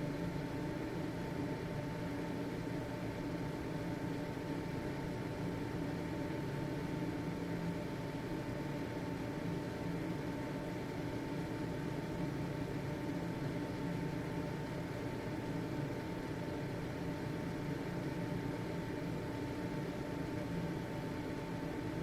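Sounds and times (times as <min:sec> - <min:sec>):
ventilation fan humming: 0:00.0 - 0:22.0.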